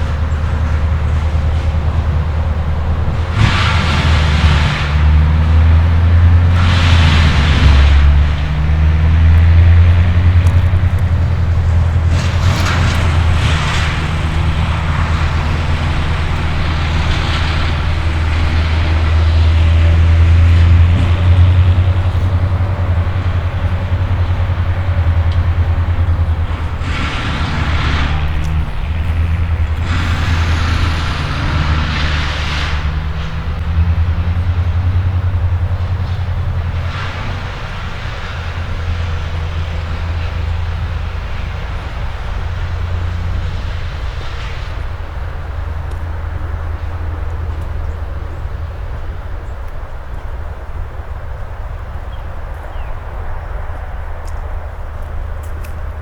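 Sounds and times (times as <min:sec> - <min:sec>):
diesel locomotive rumbling: 0:00.0 - 0:56.0.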